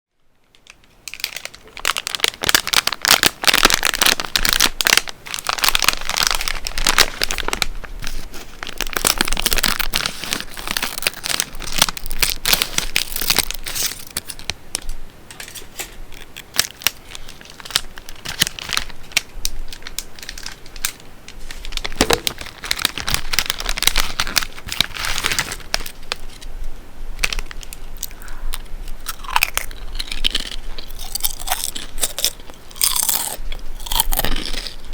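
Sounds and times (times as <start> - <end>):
chip bag crinkling: 0.5 - 26.5, 27.2 - 34.9.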